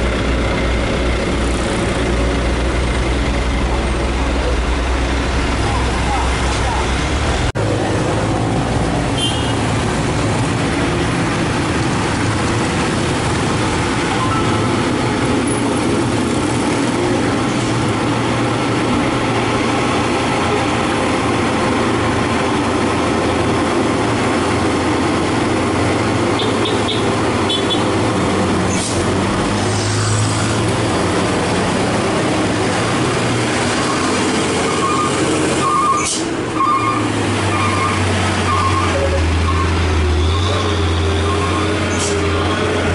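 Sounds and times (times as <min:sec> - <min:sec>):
diesel trucks driving past: 0:00.0 - 0:42.9.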